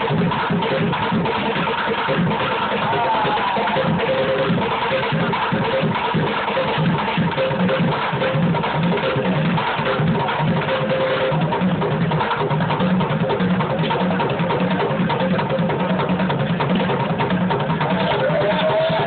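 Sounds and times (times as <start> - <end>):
bucket drumming: 0.0 - 19.0.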